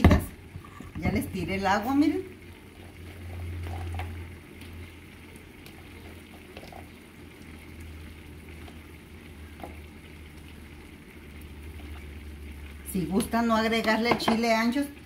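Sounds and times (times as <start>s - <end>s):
stew simmering and bubbling: 0.0s - 15.0s.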